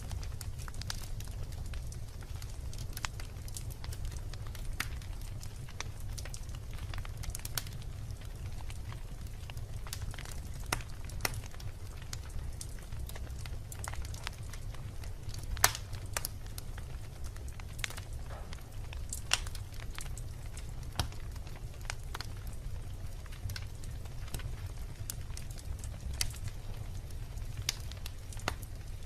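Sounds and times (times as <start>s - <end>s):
fire low rumble: 0.0s - 29.0s
logs crackling and popping: 0.0s - 29.0s.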